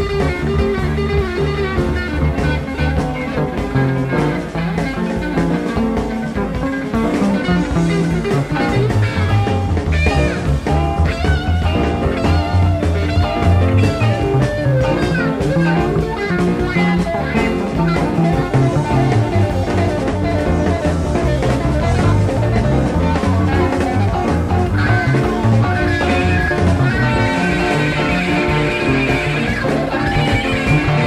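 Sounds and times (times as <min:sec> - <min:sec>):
bass guitar: 0:00.0 - 0:31.0
drums: 0:00.0 - 0:31.0
electric guitar: 0:00.0 - 0:31.0.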